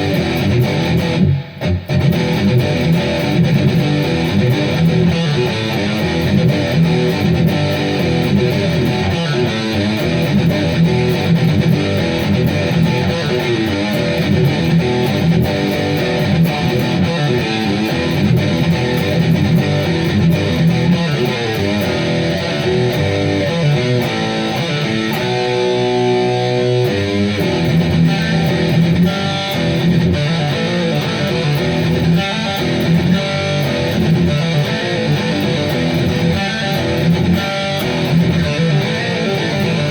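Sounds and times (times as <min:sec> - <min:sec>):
heavy metal electric guitar riffs: 0:00.0 - 0:39.9.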